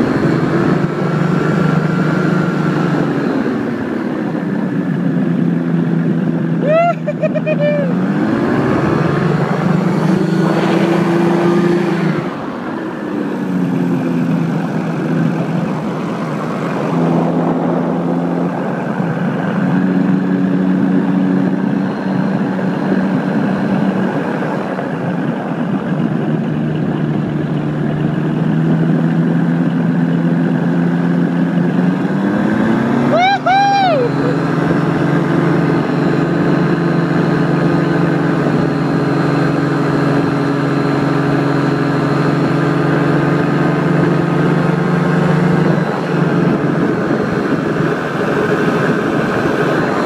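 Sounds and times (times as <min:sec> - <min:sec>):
paramotor engine and propeller: 0:00.0 - 0:50.0.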